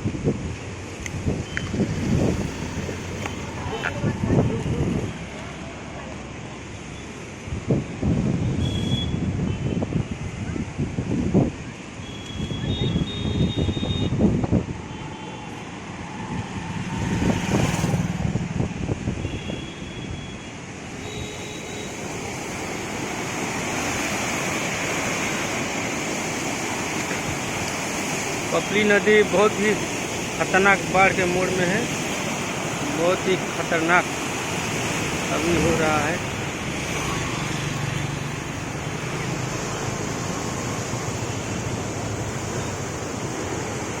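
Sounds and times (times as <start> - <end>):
floodwater rushing: 0.0 - 44.0.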